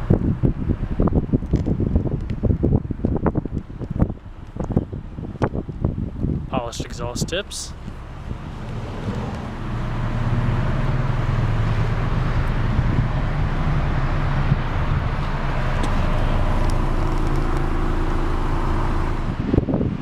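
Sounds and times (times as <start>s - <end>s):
car engine idling: 3.2s - 19.8s.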